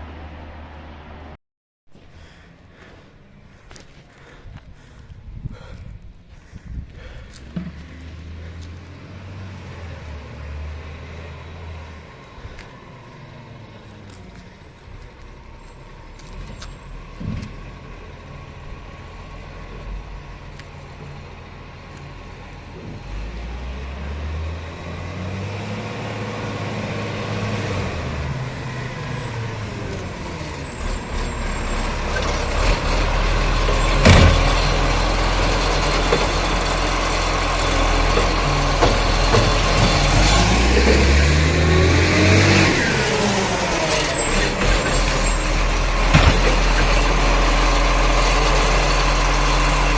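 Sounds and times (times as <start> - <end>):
garbage truck diesel engine: 6.4 - 49.9.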